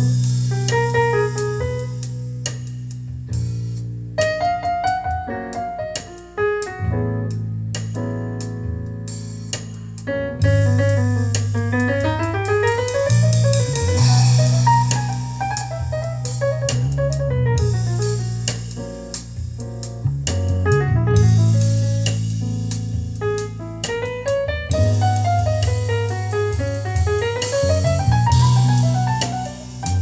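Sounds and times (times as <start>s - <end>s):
drums with cymbals: 0.0s - 6.4s, 7.7s - 30.0s
bass line: 0.0s - 30.0s
piano music over speakers: 0.0s - 30.0s.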